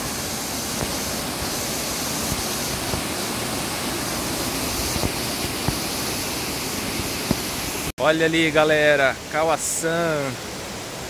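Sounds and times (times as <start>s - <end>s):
waterfall rushing over stone steps: 0.0s - 11.0s.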